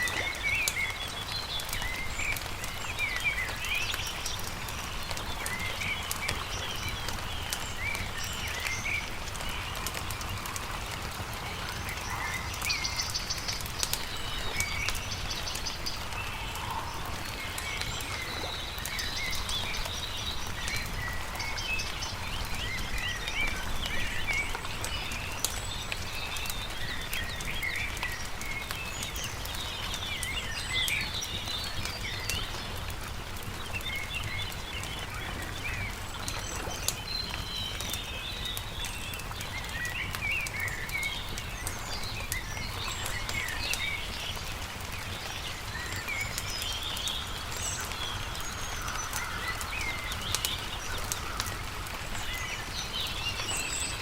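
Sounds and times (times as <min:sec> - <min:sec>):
wood campfire crackling: 0:00.0 - 0:54.0.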